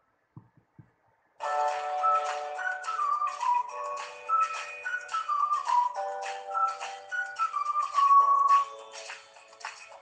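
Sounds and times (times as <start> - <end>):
background music melody: 1.4 - 10.0.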